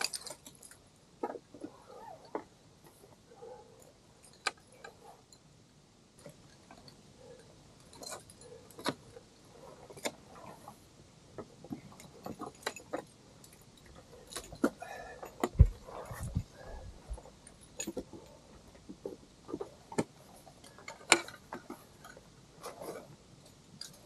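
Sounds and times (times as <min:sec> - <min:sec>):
metal climbing gear clinking: 0:00.0 - 0:05.6, 0:06.2 - 0:10.7, 0:11.5 - 0:24.0.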